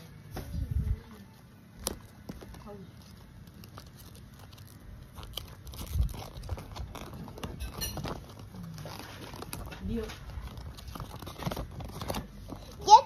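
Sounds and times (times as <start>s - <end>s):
wrapper and paper crinkling: 0.7s - 13.0s.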